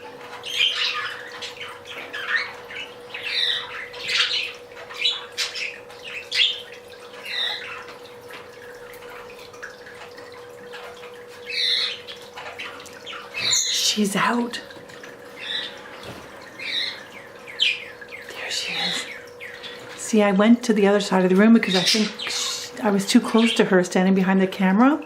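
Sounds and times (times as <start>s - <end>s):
budgerigars chirping and squawking: 0.2s - 20.0s, 21.6s - 23.7s.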